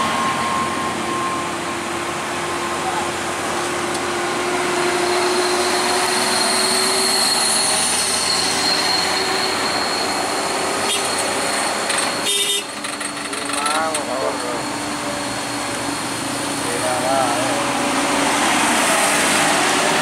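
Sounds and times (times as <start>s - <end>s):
car and truck engines passing: 0.0s - 20.0s.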